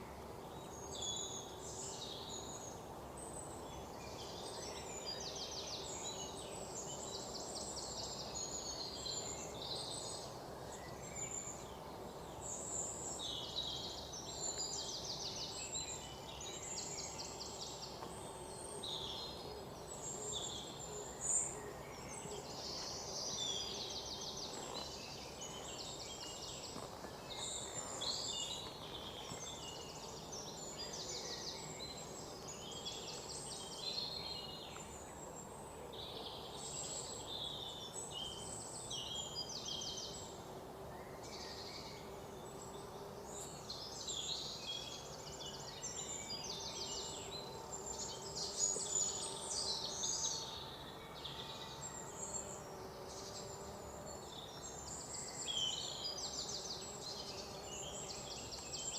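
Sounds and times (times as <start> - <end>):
steady background hiss: 0.0 - 58.9.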